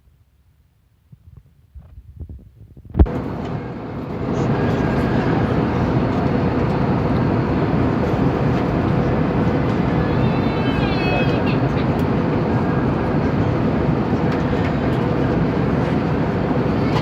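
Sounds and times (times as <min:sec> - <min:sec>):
airliner cabin engine noise: 0:02.2 - 0:17.0.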